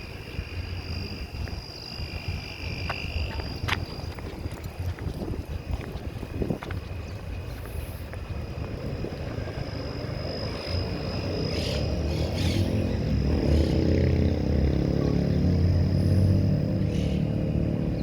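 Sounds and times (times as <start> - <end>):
vehicle engine approaching: 2.0 - 18.0.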